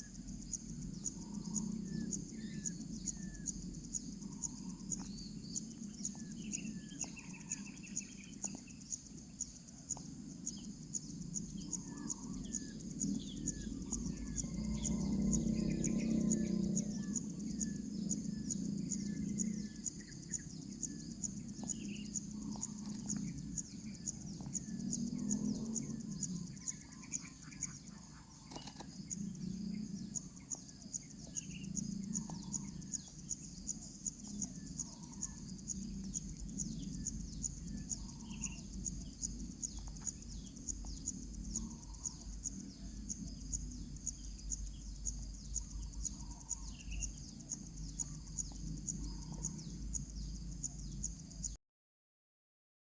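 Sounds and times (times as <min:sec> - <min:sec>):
insects trilling: 0:00.0 - 0:51.5.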